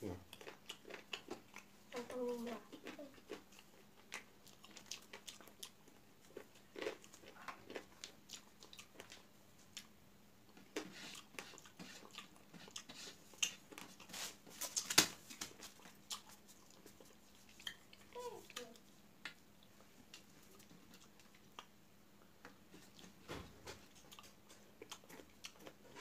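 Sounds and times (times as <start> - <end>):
man chewing with mouth clicks: 0.2 - 1.8, 2.7 - 26.0.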